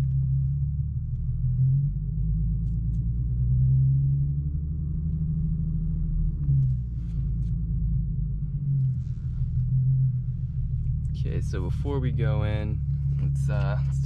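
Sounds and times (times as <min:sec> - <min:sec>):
car engine low rumble: 0:00.0 - 0:14.0.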